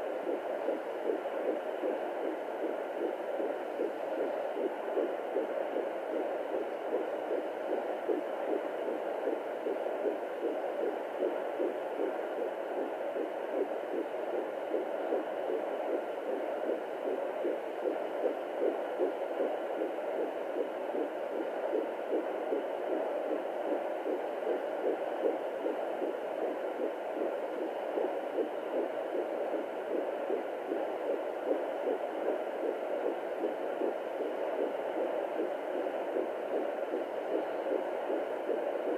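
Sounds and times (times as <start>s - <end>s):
fast fetal heartbeat pulse: 0.0s - 38.9s.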